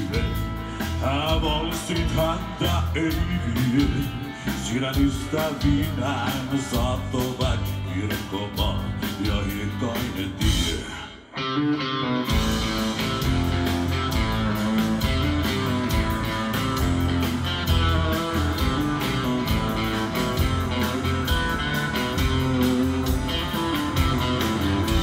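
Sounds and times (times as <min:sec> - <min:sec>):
drums steady beat: 0:00.0 - 0:11.0, 0:12.3 - 0:25.0
bass guitar: 0:00.0 - 0:25.0
distorted electric guitars: 0:00.0 - 0:25.0.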